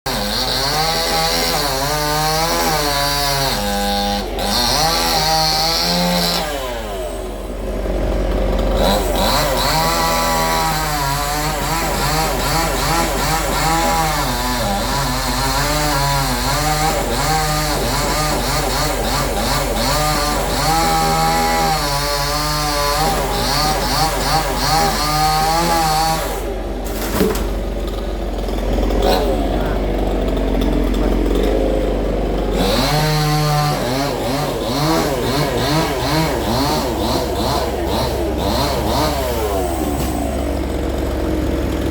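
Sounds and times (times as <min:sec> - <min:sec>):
chainsaw cutting: 0:00.1 - 0:41.9.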